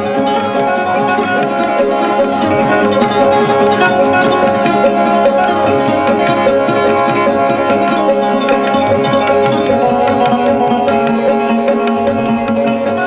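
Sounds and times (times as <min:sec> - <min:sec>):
hand drums: 0:00.0 - 0:13.0
plucked string instrument: 0:00.0 - 0:13.0
steady drone: 0:00.0 - 0:13.0.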